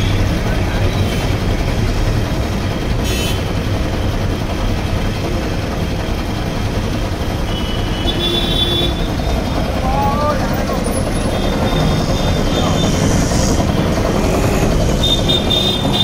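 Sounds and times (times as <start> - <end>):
air compressor chugging: 0.0 - 16.0.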